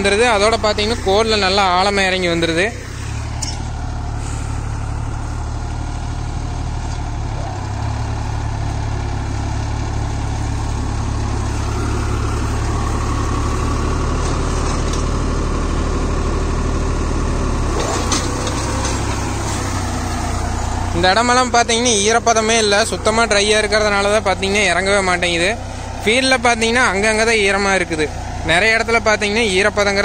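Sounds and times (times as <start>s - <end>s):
cultivator working soil: 0.0s - 30.0s
tractor diesel engine running: 0.0s - 30.0s.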